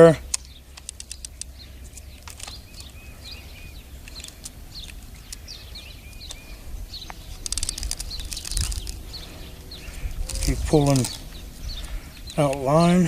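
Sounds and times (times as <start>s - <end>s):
songbirds chirping: 0.0s - 13.0s
steady low rumble: 0.0s - 13.0s
light clicks: 0.3s - 3.0s, 4.0s - 12.7s.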